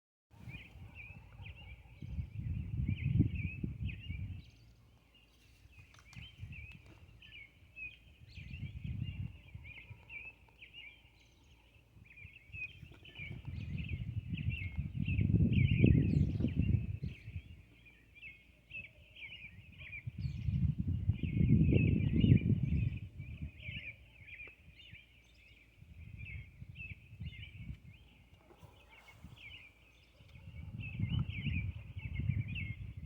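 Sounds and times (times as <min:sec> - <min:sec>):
small birds chirping: 0:00.4 - 0:33.0.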